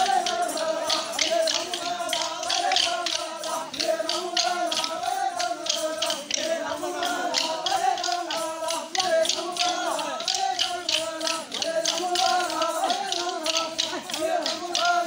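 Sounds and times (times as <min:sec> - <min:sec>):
wavering sung melody: 0:00.0 - 0:15.0
wooden sticks clacking: 0:00.0 - 0:15.0.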